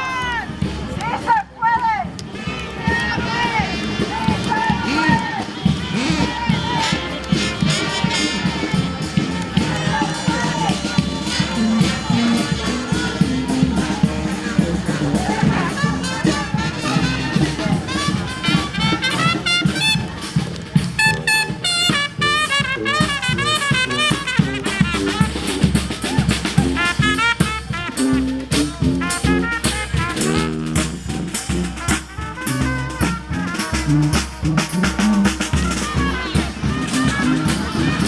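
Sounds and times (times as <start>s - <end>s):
drums keeping steady beat: 0.0s - 38.0s
brass band horns playing melody: 2.3s - 38.0s.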